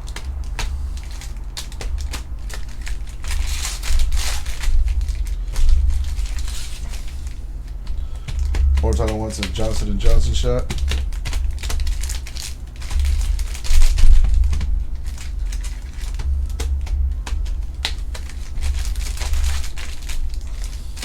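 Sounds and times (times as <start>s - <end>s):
cards clicking: 0.0s - 21.0s
dull low bumps: 0.0s - 21.0s
foil wrappers crinkling: 0.0s - 21.0s.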